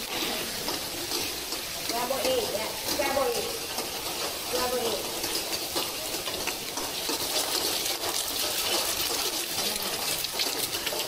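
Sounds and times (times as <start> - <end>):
food sizzling in a hot pan: 0.0 - 11.0.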